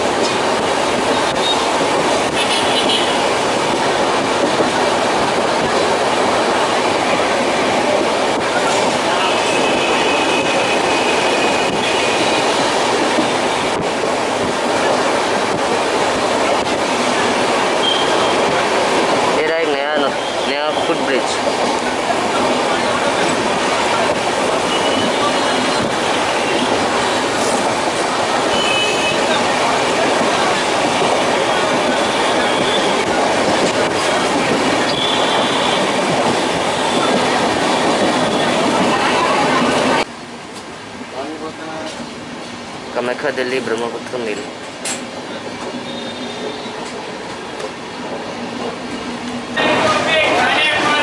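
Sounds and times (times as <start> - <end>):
train wheels on rails: 0.0 - 51.0.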